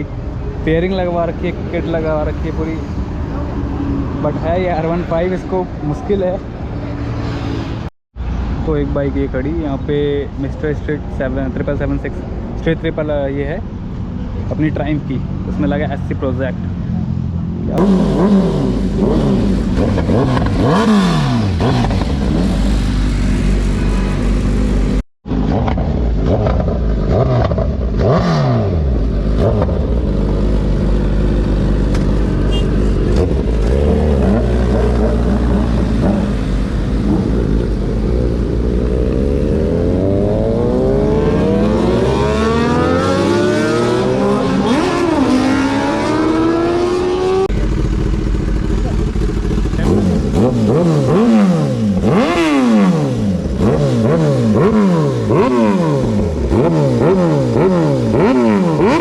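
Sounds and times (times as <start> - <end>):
vehicle engines on road: 0.0 - 59.0.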